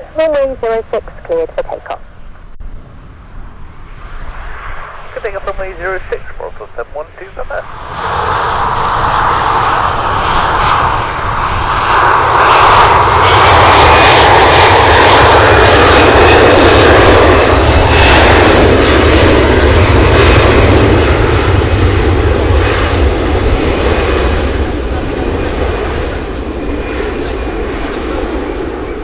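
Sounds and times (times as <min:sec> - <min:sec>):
jet engines at takeoff power: 0:00.0 - 0:29.0.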